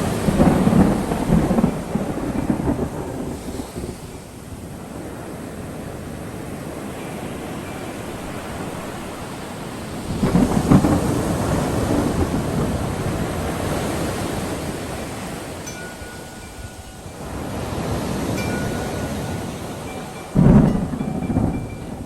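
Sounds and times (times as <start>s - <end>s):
rain: 0.0s - 22.0s
surf: 0.0s - 22.0s
thunder crack and rumble: 0.0s - 22.0s.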